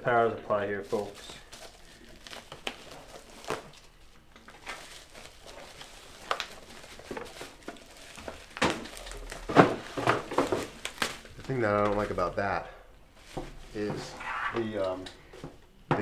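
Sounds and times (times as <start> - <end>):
plastic packaging crinkling: 0.5 - 14.4.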